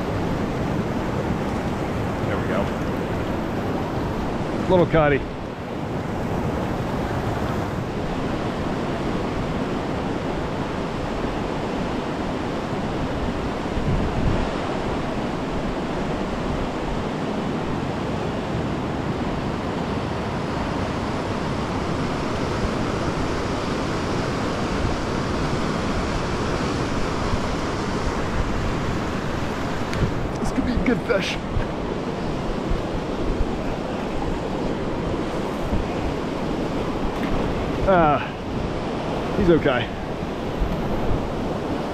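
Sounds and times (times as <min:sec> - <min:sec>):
river rapids rushing: 0:00.0 - 0:41.9.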